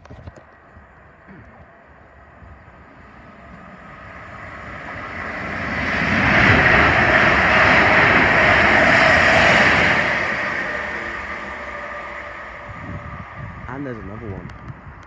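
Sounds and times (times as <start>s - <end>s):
train rumble and wheel hiss: 0.5s - 15.0s.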